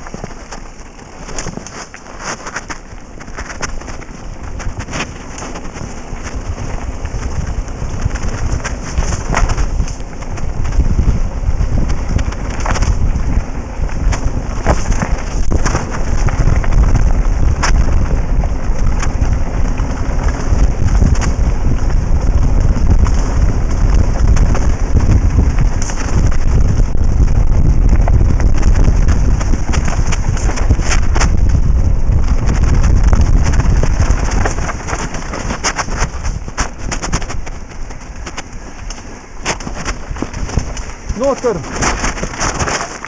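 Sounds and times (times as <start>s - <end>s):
tyres crunching on gravel: 0.0s - 43.0s
wind buffeting microphone: 0.0s - 43.0s.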